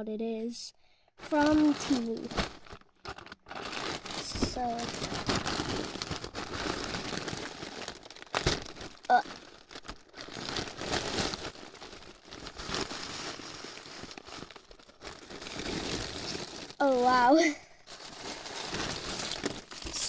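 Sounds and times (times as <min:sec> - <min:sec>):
plastic packaging crinkling: 0:01.2 - 0:20.0.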